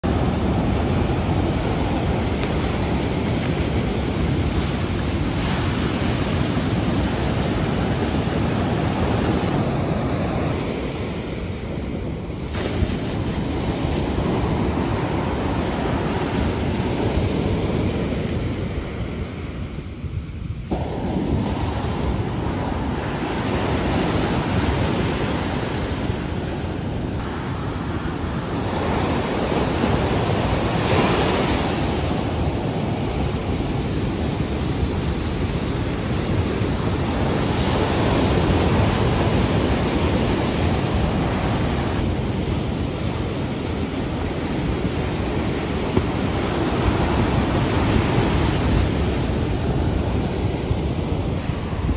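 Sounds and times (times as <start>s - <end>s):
heavy surf breaking: 0.0s - 51.9s.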